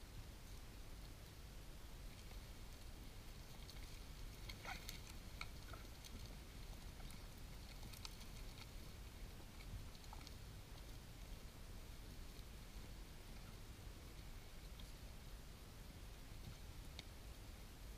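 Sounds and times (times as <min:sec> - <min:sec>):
low steady rumble: 0:00.0 - 0:17.9
vultures clicking and rustling: 0:00.4 - 0:15.3.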